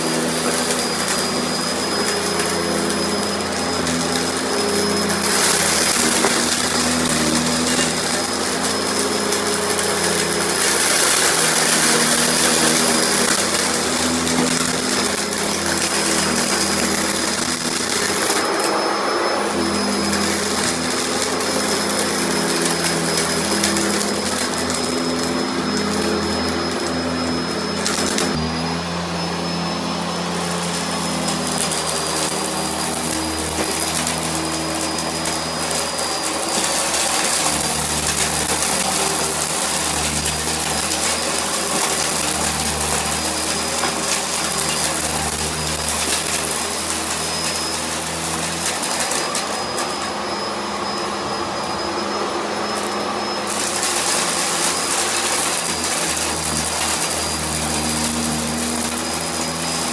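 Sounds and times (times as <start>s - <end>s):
upright vacuum cleaner running: 0.0s - 59.9s.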